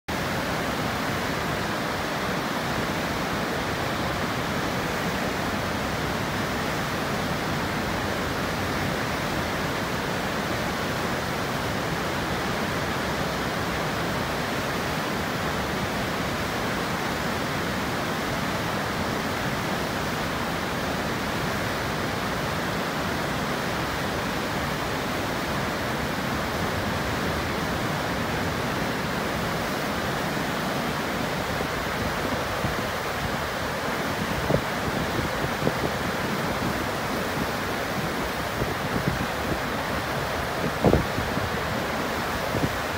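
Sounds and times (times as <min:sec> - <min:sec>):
water rushing over spillway: 0:00.1 - 0:42.9.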